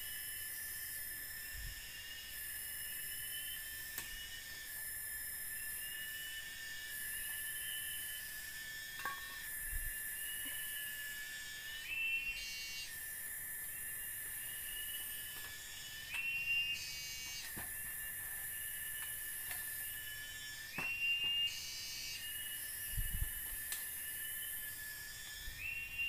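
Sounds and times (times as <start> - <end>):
high insect buzzing: 0.0 - 26.0
insects trilling: 0.0 - 26.0.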